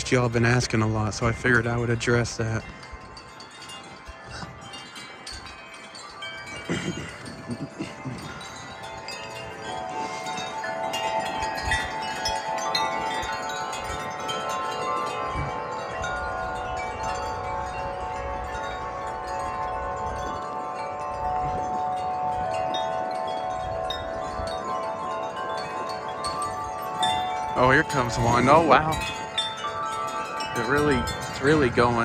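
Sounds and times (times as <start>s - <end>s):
wind chimes ringing: 0.0s - 32.0s
wind rumble on microphone: 0.0s - 32.0s.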